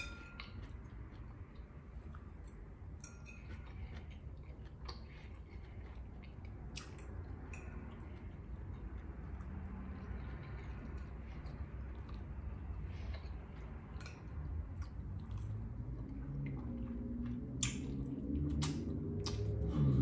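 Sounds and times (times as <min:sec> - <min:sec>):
chewing pasta: 0:00.0 - 0:20.0
low steady hum: 0:00.0 - 0:20.0.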